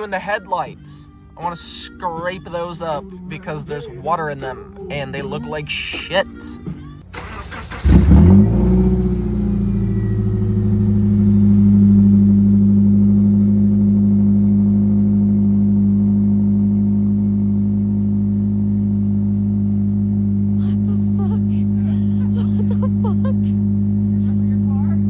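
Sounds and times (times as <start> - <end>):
pickup engine starting and idling: 1.2 - 25.0.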